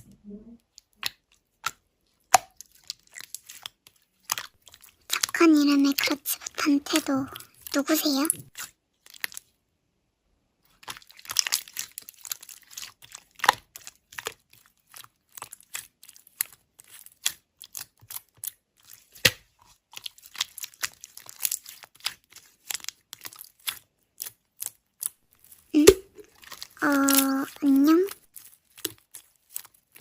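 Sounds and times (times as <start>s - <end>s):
slime squeezed and stretched: 0.8s - 9.5s, 10.7s - 30.0s.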